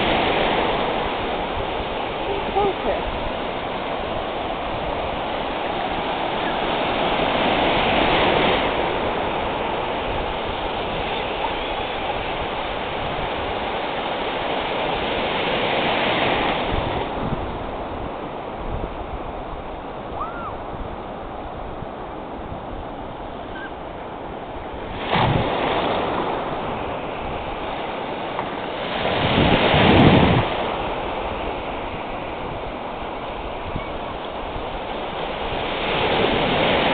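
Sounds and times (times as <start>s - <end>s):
small waves breaking: 0.0s - 36.9s.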